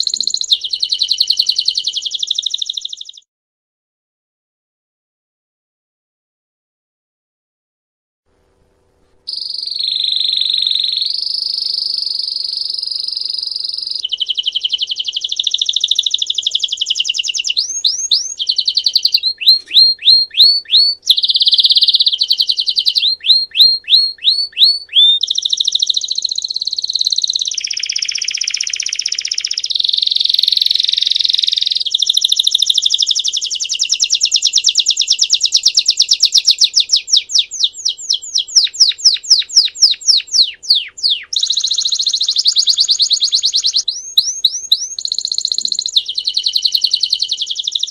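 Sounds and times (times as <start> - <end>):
canary singing trills: 0.0 - 3.2, 9.3 - 47.9.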